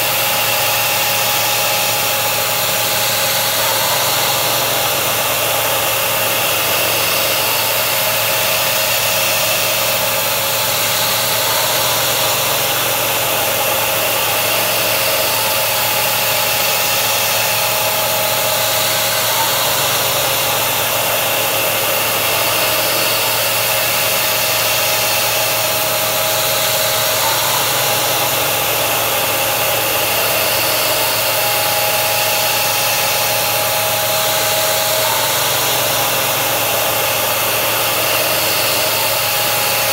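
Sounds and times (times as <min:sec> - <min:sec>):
milling machine cutting: 0:00.0 - 0:39.9.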